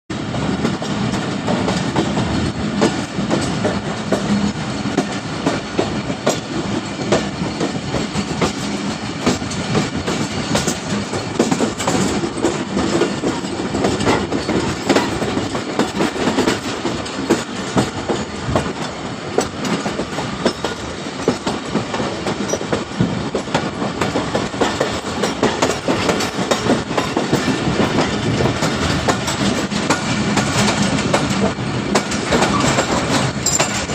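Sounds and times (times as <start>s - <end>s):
train wheels rumbling on track: 0.1s - 33.9s
wheels clicking on rail joints: 0.2s - 33.9s.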